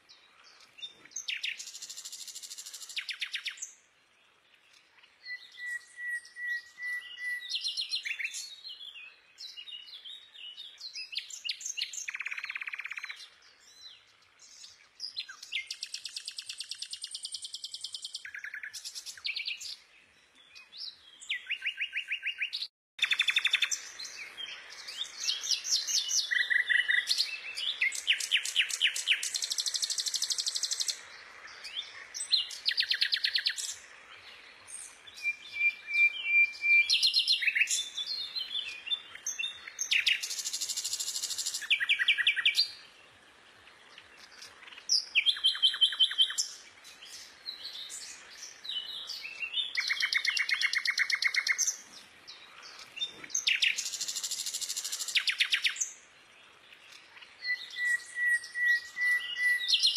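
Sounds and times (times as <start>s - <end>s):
bird calls trills and whistles: 0.0s - 3.9s, 4.7s - 43.0s, 43.8s - 56.1s, 56.7s - 59.9s.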